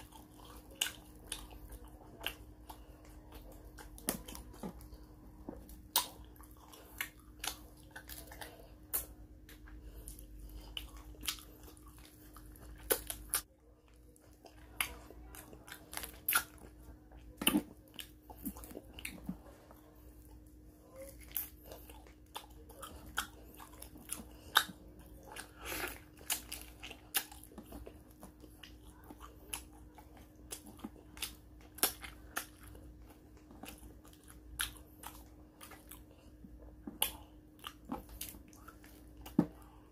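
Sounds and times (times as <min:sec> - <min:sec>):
chewing crispy fried fish: 0:00.0 - 0:39.9
faint steady hum: 0:00.0 - 0:39.9.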